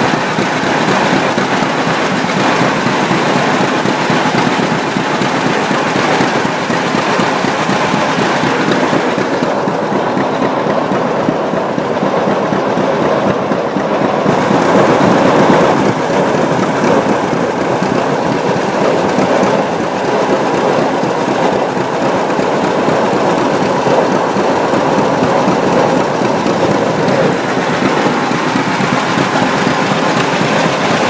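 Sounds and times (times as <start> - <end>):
tractor engines rumbling: 0.0 - 31.0.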